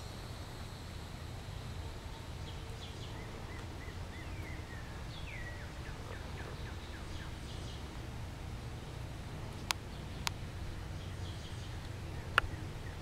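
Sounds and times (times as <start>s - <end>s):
songbird calling: 0.0s - 8.2s, 9.4s - 13.0s
steady low rumble: 0.0s - 13.0s.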